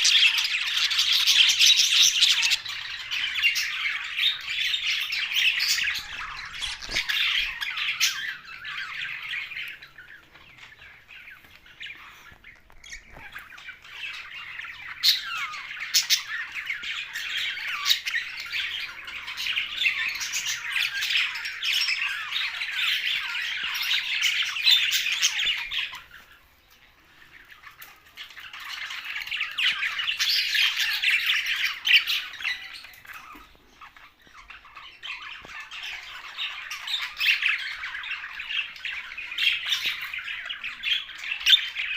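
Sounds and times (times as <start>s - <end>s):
budgerigars chattering: 0.0s - 41.9s.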